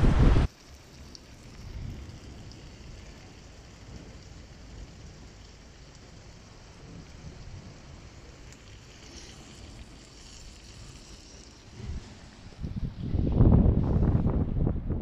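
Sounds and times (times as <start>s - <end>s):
wind rumbling on microphone: 0.0s - 0.5s, 1.4s - 15.0s.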